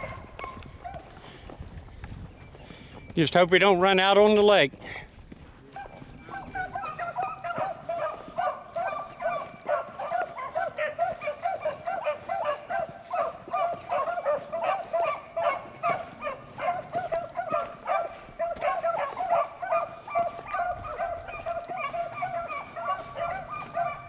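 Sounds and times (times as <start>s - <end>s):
dogs baying: 0.0s - 1.5s, 5.6s - 24.0s.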